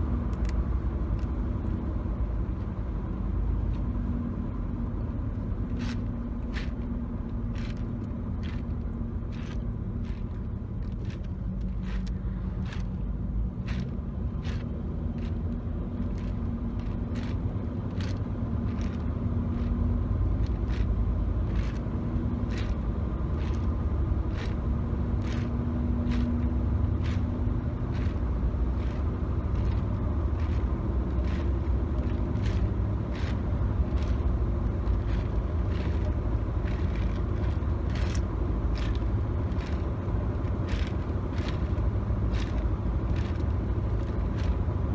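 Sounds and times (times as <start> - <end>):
car cabin road rumble: 0.0 - 44.9.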